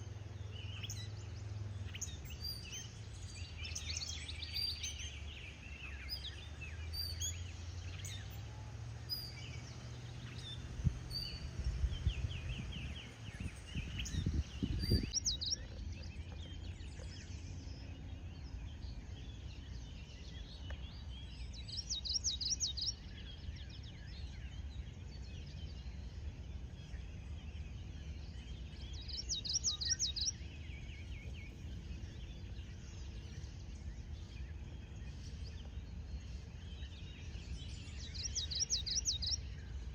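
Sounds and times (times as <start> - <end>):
low background rumble: 0.0 - 39.9
wild birds chirping: 0.0 - 39.9.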